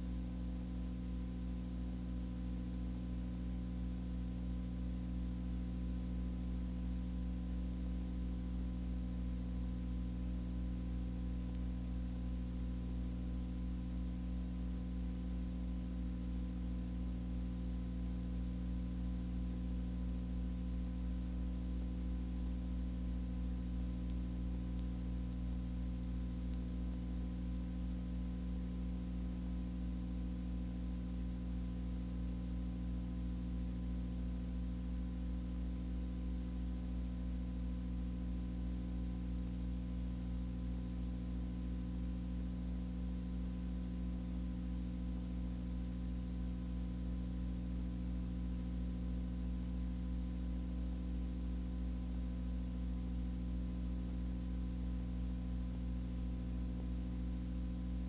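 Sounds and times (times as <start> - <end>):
low hum with hiss: 0.0 - 58.0.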